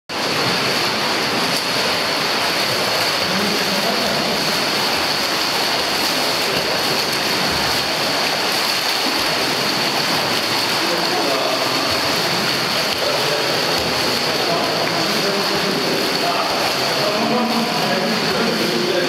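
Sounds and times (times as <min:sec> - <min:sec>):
swimmer splashing in pool: 0:00.1 - 0:19.0.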